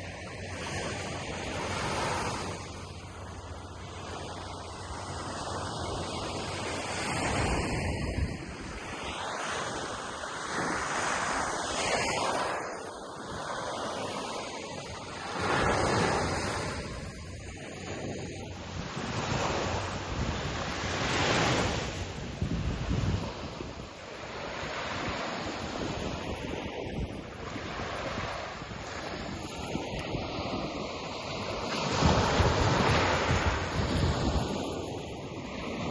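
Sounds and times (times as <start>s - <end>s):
sea waves breaking on beach: 0.0s - 35.9s
wind rumbling on microphone: 0.0s - 35.9s.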